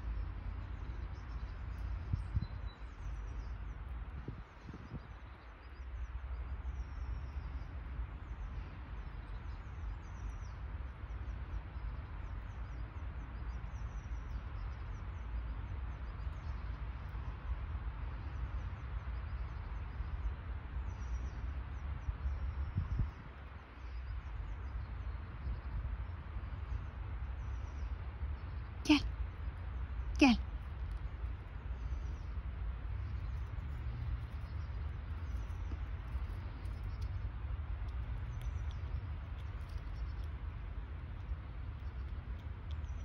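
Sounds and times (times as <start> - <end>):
low outdoor rumble: 0.0 - 43.0
small birds chirping: 0.0 - 43.0.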